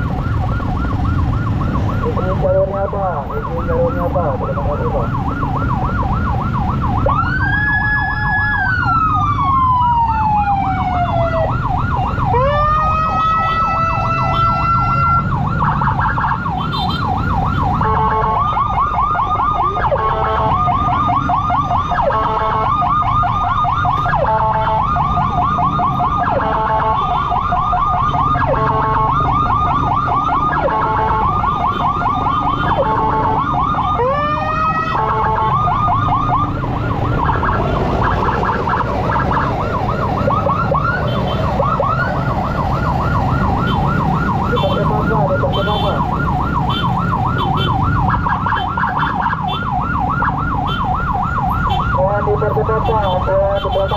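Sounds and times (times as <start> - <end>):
emergency siren yelp: 0.0 - 53.9
road noise: 0.0 - 53.9
siren wail: 0.0 - 53.9
two-tone siren: 0.0 - 53.9.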